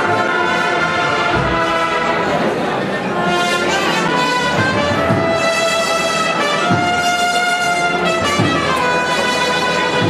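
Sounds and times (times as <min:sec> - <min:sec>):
trumpet and trombone notes: 0:00.0 - 0:10.0.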